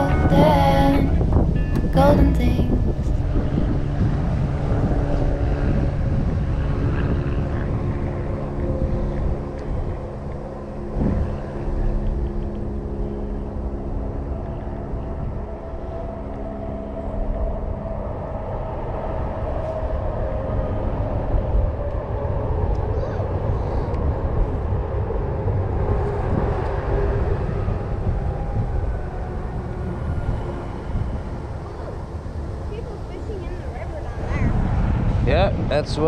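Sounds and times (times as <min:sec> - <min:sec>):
engine droning: 0:00.0 - 0:36.0
low rumble: 0:00.0 - 0:36.0.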